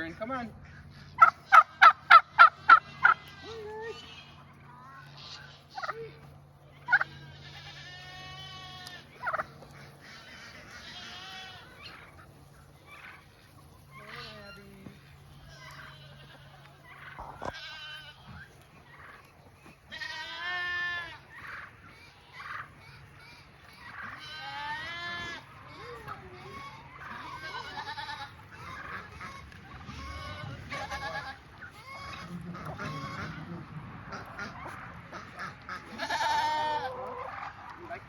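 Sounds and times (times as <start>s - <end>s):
goats bleating: 0.9s - 38.0s.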